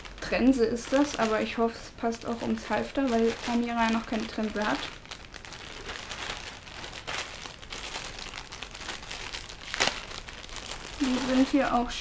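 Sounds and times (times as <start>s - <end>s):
plastic bag crinkling: 0.0s - 12.0s
sharp plastic crackle: 0.0s - 12.0s.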